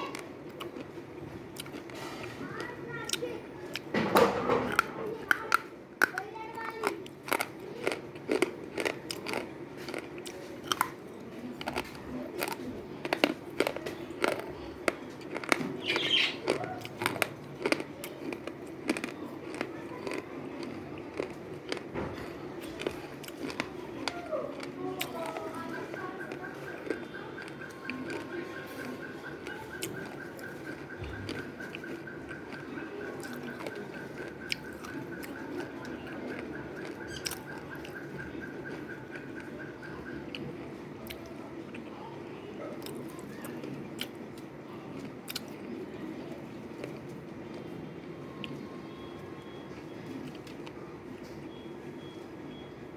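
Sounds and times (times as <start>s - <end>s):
pencils being bitten and chewed: 0.0s - 41.9s, 42.7s - 47.7s.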